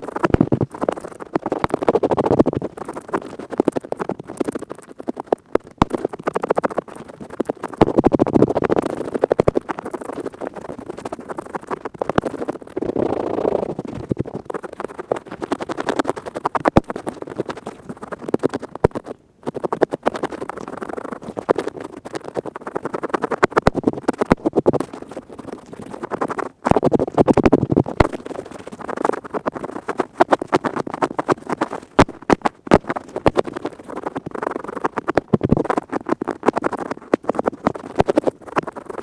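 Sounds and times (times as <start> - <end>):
earpick scraping microphone: 0.0 - 7.0, 11.9 - 22.5, 23.4 - 39.0.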